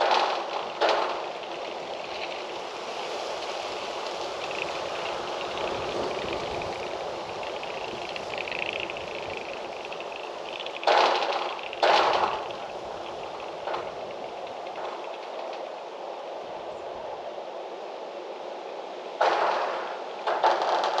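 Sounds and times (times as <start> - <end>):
wind noise: 0.0 - 21.0.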